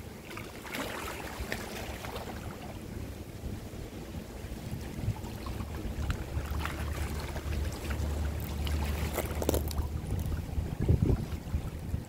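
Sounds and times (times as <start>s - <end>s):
water lapping with small splashes: 0.0s - 12.0s
low steady rumble: 1.2s - 12.0s.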